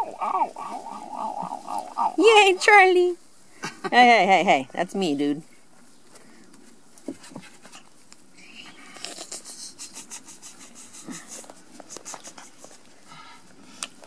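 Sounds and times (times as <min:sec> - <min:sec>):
rustling and scratching in grass: 0:00.0 - 0:14.0.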